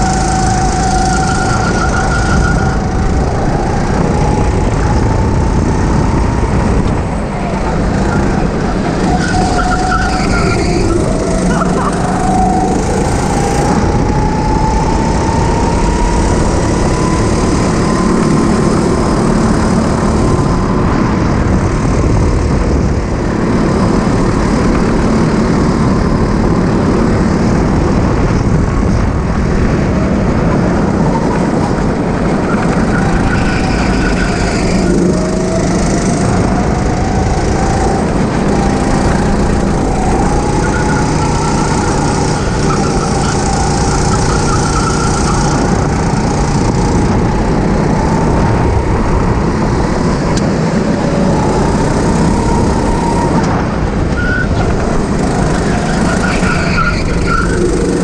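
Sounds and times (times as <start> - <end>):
go-kart engine running hard: 0.0 - 58.0
steady rush of noise: 0.0 - 58.0.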